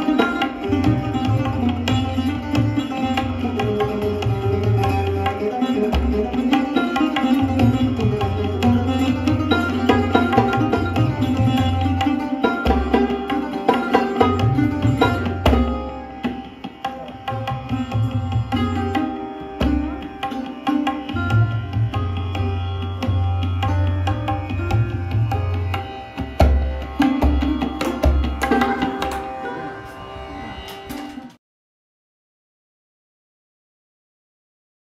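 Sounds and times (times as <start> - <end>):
plucked sarod notes: 0.0 - 31.4
tabla strokes: 0.0 - 31.4.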